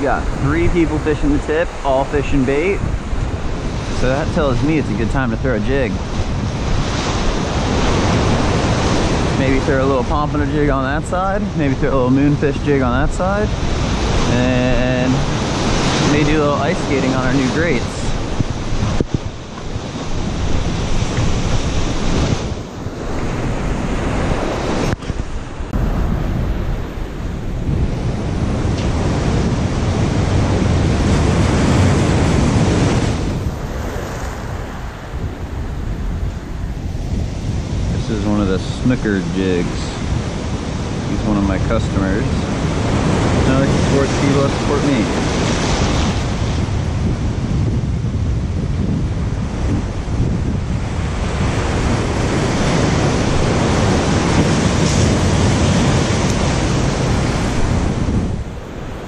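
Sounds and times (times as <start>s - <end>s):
ocean surf breaking: 0.0s - 59.0s
wind buffeting microphone: 0.0s - 59.0s.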